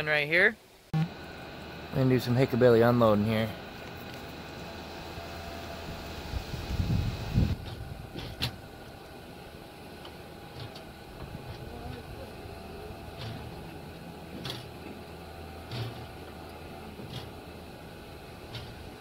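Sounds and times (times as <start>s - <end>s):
low steady hum: 0.3s - 19.0s.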